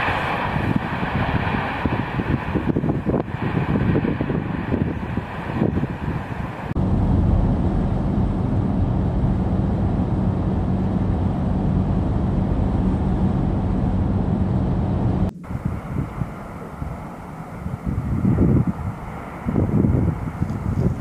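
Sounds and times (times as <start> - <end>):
car road and engine drone: 0.0 - 21.0.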